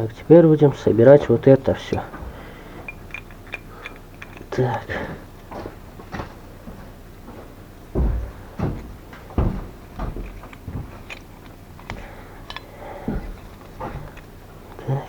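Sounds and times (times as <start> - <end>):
gearbox parts clunking: 0.8 - 6.3, 8.0 - 15.0.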